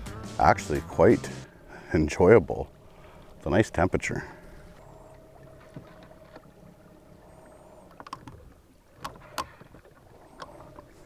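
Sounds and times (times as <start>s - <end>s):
faint steady hum: 1.4s - 11.0s.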